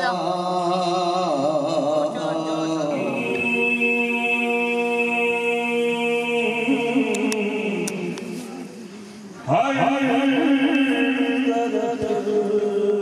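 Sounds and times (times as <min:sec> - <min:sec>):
man chanting into microphone: 0:00.0 - 0:08.6, 0:09.4 - 0:13.0.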